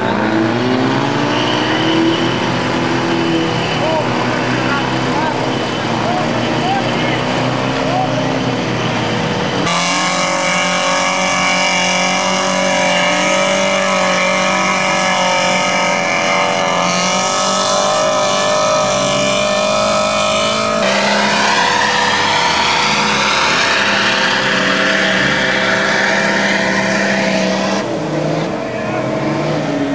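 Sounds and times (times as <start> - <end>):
engine revving high: 0.0 - 29.9.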